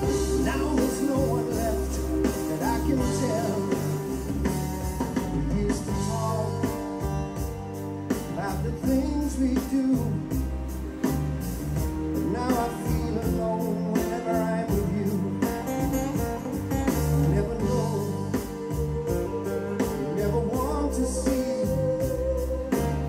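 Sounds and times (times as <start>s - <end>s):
heavy pulsing bass: 0.0s - 23.0s
rock song through car speakers: 0.0s - 23.0s.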